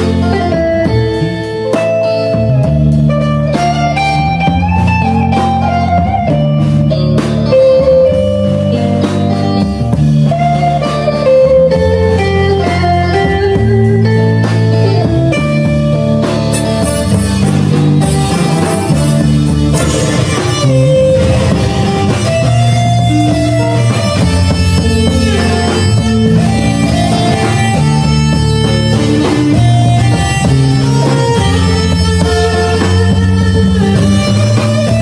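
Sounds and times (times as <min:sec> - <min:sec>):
guitar melody: 0:00.0 - 0:35.0
steady bass line: 0:00.0 - 0:35.0.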